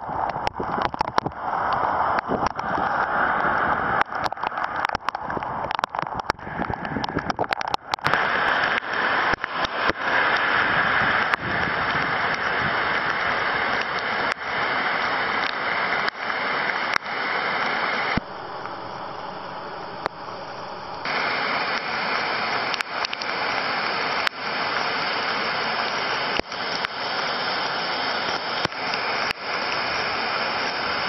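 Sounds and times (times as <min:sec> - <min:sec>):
heavy rain on wet street: 0:00.0 - 0:31.0
storm water gushing into stream: 0:00.0 - 0:31.0.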